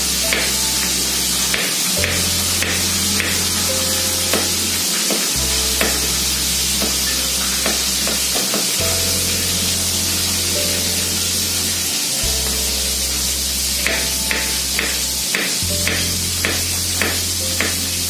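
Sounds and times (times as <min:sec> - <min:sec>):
faint music: 0:00.0 - 0:18.0
fish sizzling in hot oil: 0:00.0 - 0:18.0.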